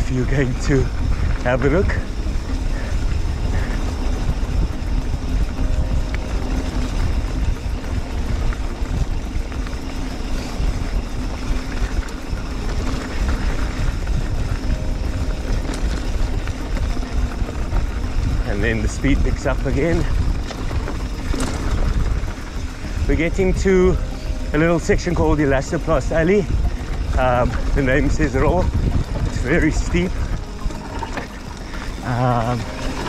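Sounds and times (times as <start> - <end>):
bike tyres on dirt trail: 0.0 - 33.0
wind rumble on microphone: 0.0 - 33.0.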